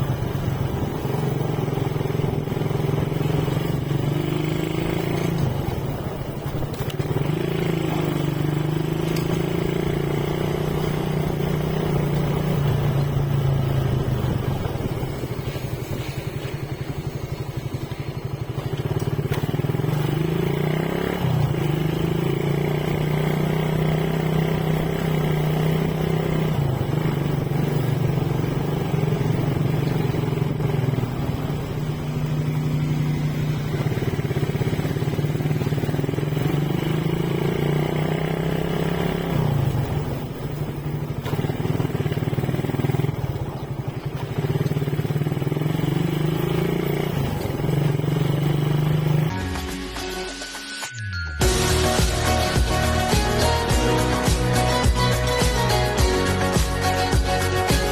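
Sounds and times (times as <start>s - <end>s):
motorcycle engine running: 0.0s - 49.7s, 51.4s - 57.9s.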